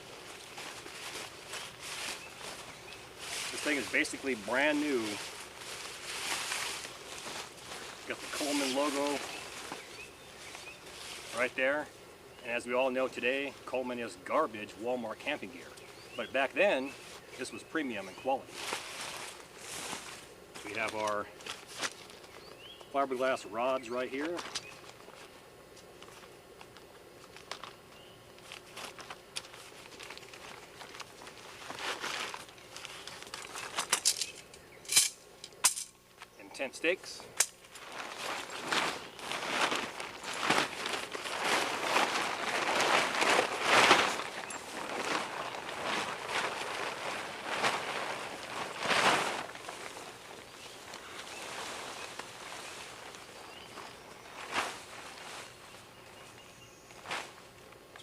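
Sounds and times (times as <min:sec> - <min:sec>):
gear crinkling and rustling: 0:00.0 - 0:11.7, 0:16.9 - 0:36.4, 0:37.4 - 0:58.0.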